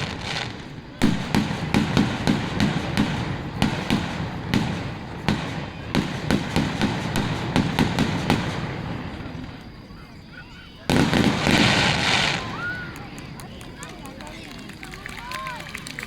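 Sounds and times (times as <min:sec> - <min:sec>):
fireworks bursting: 0:00.0 - 0:15.9.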